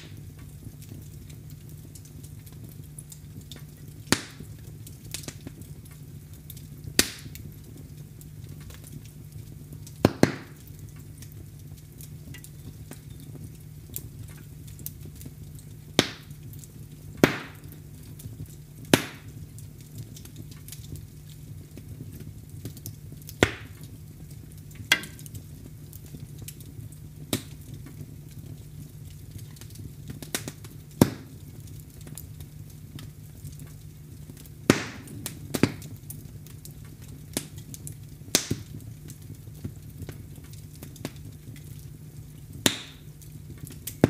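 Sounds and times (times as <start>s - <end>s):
fire crackling and popping: 0.0s - 44.0s.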